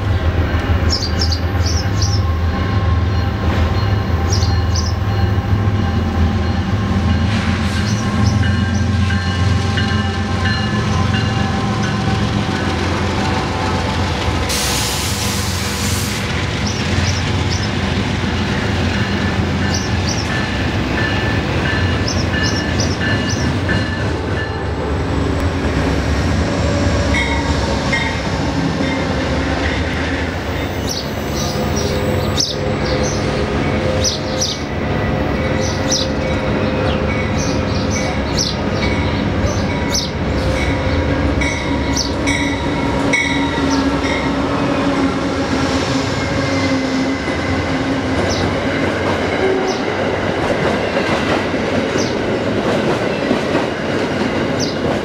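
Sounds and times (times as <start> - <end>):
passenger train passing: 0.0 - 55.0
train wheels rumbling on rail: 0.0 - 55.0.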